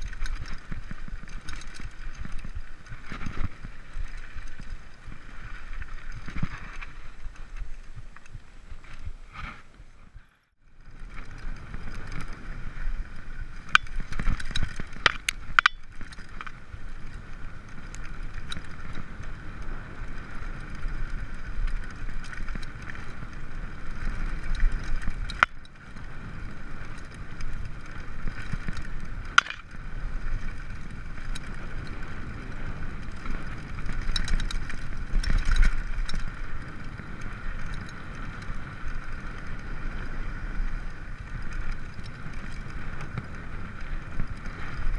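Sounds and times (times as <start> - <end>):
bike tyres rumbling and rattling: 0.0 - 44.9
wind on microphone: 0.0 - 44.9.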